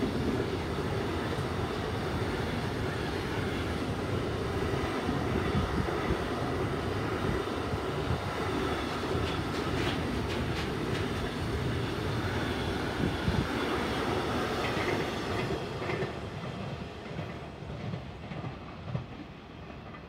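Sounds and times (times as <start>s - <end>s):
freight train wheels rumbling on track: 0.0s - 20.0s.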